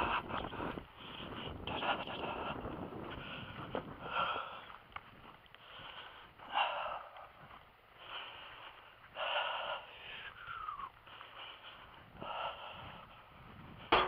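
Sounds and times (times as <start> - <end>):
man breathing hard: 0.0 - 14.0.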